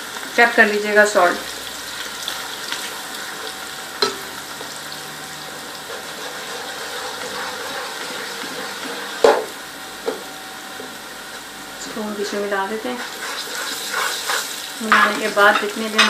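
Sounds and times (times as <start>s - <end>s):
onions and garlic sizzling in oil: 0.0s - 16.0s.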